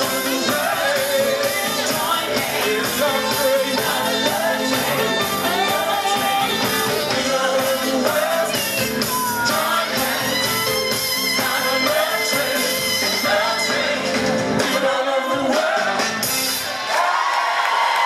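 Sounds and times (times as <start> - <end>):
man singing lead: 0.0 - 16.2
saxophone: 0.0 - 16.8
drums: 0.0 - 17.1.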